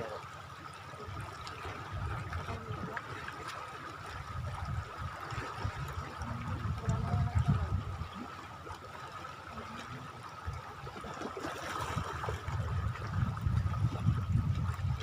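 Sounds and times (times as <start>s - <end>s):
water lapping at shoreline: 0.0s - 15.0s.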